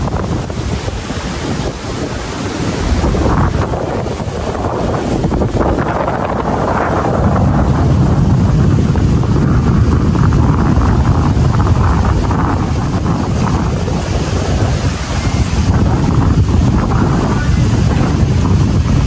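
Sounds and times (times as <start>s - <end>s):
sea washing on shore: 0.0s - 19.0s
strong wind buffeting microphone: 0.0s - 19.0s.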